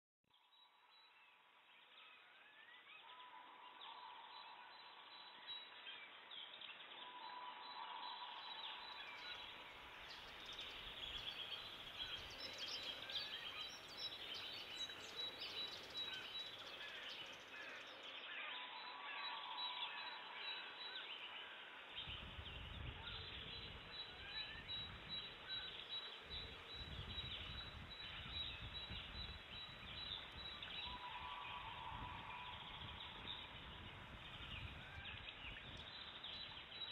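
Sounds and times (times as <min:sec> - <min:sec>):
birds chirping: 0:05.2 - 0:36.9.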